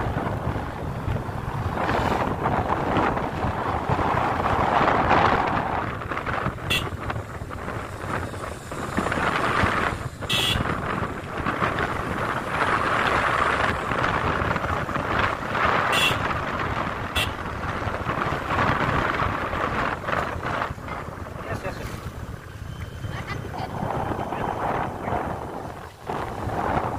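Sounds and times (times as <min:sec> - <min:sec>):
motorcycle engine and road noise: 0:00.0 - 0:26.9
wind rushing over microphone: 0:00.0 - 0:26.9.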